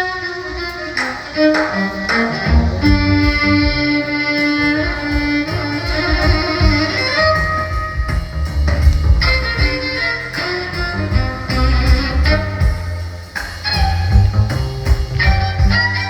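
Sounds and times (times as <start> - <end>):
jazz ballad band playing: 0.0 - 16.0
violin held notes: 0.0 - 16.0.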